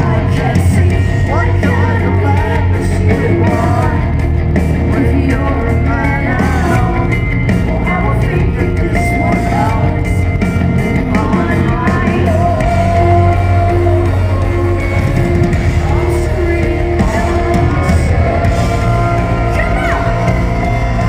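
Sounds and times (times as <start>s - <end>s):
arena crowd: 0.0s - 21.0s
bass guitar: 0.0s - 21.0s
drums: 0.0s - 21.0s
electric guitar: 0.0s - 21.0s
woman singing lead: 0.0s - 21.0s.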